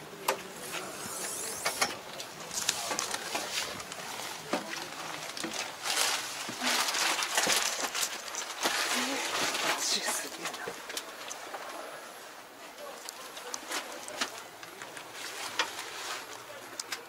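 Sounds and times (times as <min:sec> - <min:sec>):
rustling: 0:00.5 - 0:11.9, 0:13.1 - 0:17.0.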